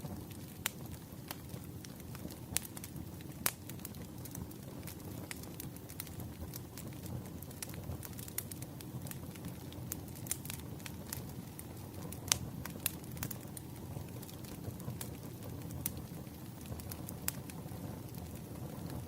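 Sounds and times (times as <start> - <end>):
firewood crackling and popping: 0.0 - 19.0
low rush of flame: 0.0 - 19.0.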